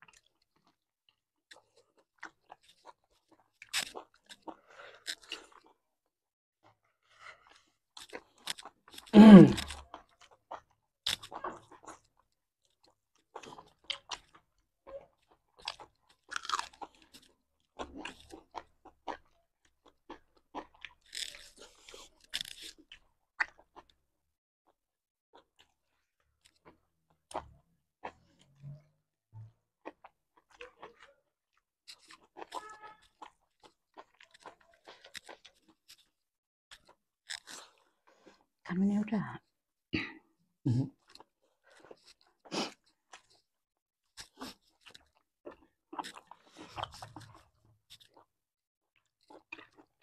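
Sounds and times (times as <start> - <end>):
people chewing crunchy food: 0.0 - 24.1, 24.7 - 38.6, 40.7 - 50.0.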